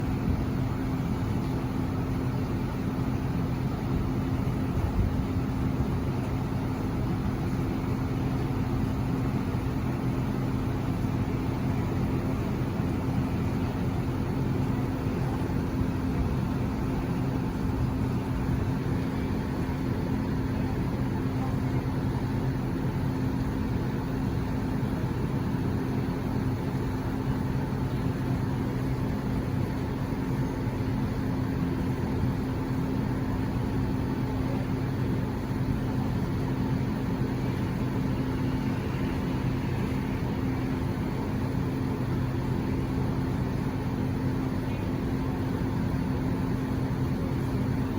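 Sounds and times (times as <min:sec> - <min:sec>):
air conditioner humming: 0:00.0 - 0:47.9.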